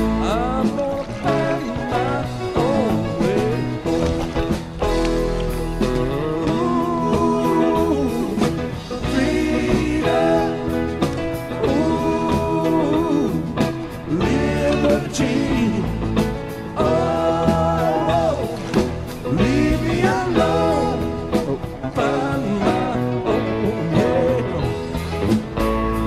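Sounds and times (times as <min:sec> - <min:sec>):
song with singing voice: 0:00.0 - 0:26.0.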